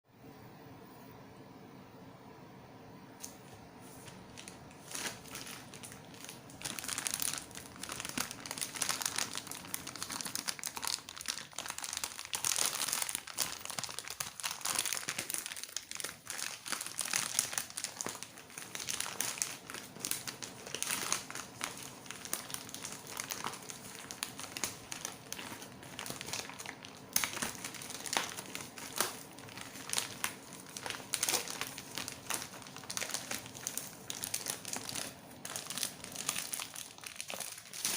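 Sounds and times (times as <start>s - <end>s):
packaging crinkling: 4.0s - 37.9s.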